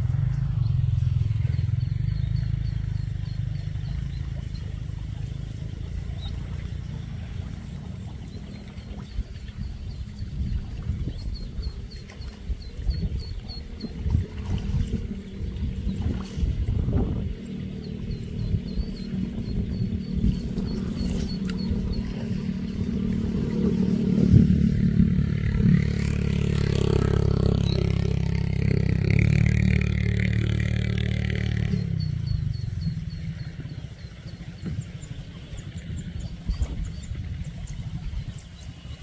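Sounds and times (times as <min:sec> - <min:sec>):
engine running: 0:00.0 - 0:39.0.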